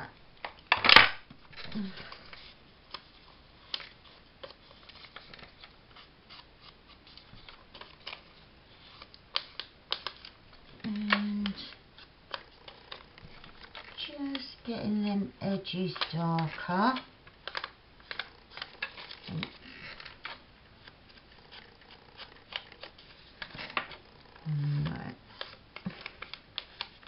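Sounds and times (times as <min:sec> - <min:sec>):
paper rustling: 0:01.5 - 0:14.5, 0:15.6 - 0:24.0, 0:24.6 - 0:27.0.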